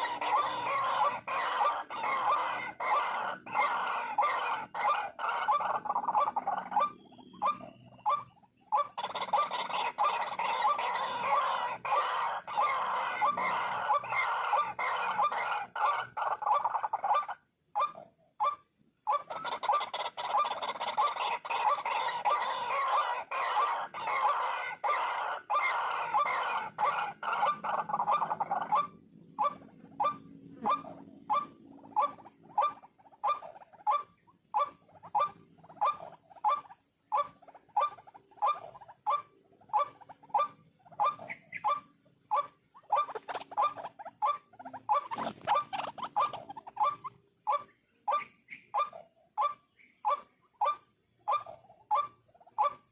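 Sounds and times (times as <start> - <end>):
waterhen croaking call: 0.0 - 52.9.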